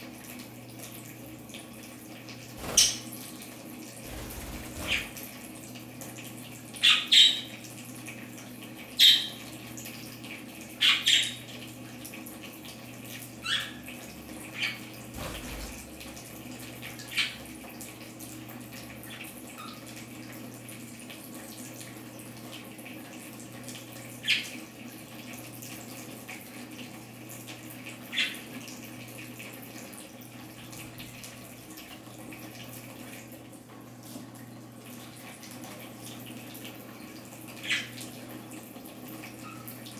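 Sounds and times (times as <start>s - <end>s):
small pump humming: 0.0s - 39.9s
water trickling and splashing: 0.0s - 39.9s.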